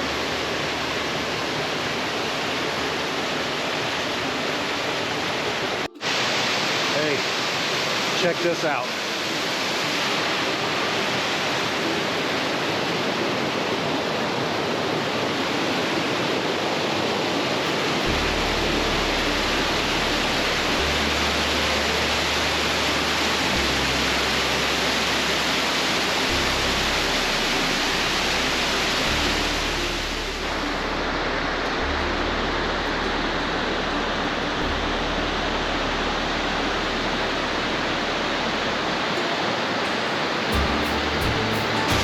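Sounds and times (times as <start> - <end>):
creek water rushing over rocks: 0.0 - 42.0.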